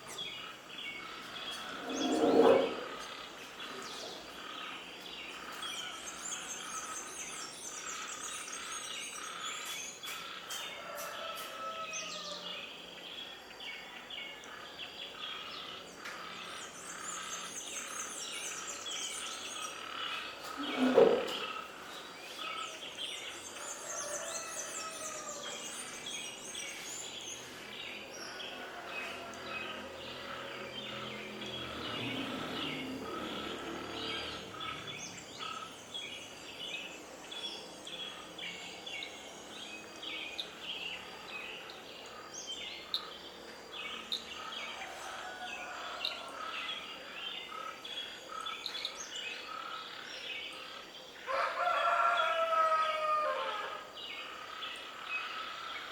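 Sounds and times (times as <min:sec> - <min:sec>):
chorus of birds chirping: 0:00.0 - 0:55.9.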